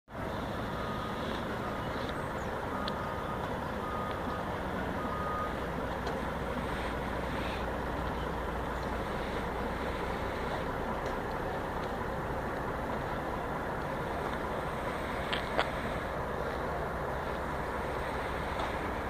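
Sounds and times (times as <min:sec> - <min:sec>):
vehicle driving rumble: 0:00.1 - 0:19.0
truck backup alarm beeping: 0:00.2 - 0:19.0.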